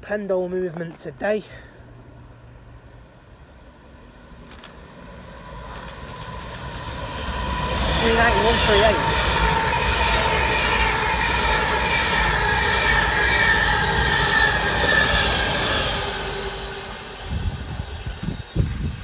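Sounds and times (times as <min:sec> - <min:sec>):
electric train passing: 0:01.7 - 0:19.0
whining train tones: 0:01.9 - 0:19.0.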